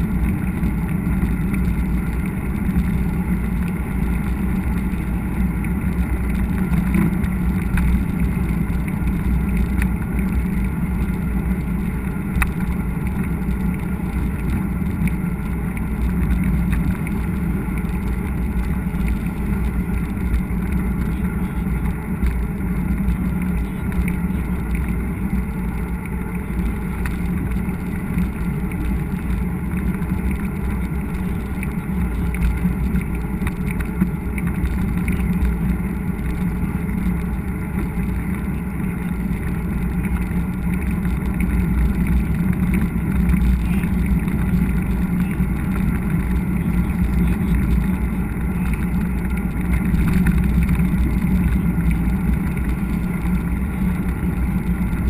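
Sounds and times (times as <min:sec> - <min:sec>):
wind rumbling on microphone: 0:00.0 - 0:55.0.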